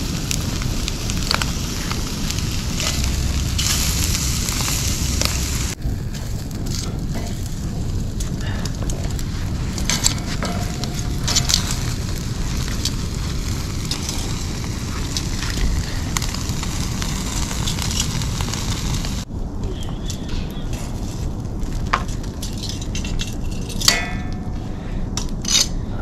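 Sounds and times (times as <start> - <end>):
wood fire crackling and popping: 0.0 - 25.7
steady low rumble: 0.0 - 26.0.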